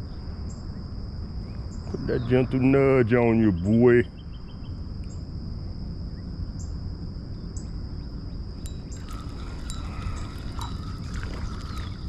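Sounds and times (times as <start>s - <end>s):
insects droning: 0.0s - 12.0s
low steady rumble: 0.0s - 12.0s.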